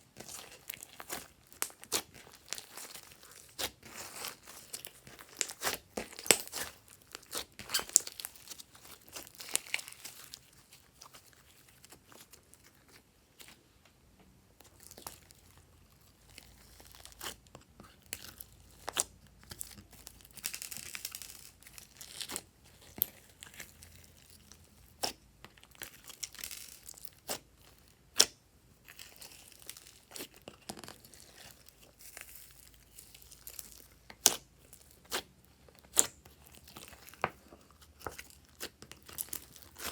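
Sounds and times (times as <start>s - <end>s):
slime crackling and popping: 0.2s - 13.5s, 14.6s - 39.9s.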